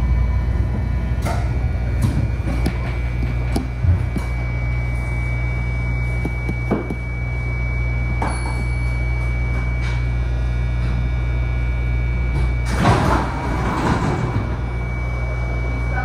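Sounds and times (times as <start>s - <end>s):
train hum and whine: 0.0s - 16.0s.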